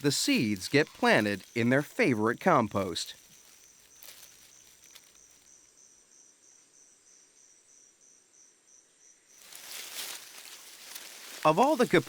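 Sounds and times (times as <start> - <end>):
faint cricket chirping: 0.0 - 12.0.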